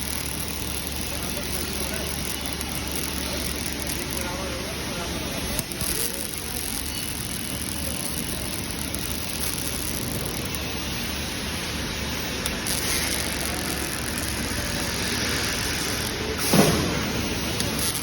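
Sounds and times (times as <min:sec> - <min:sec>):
welding line grainy hiss: 0:00.0 - 0:18.0.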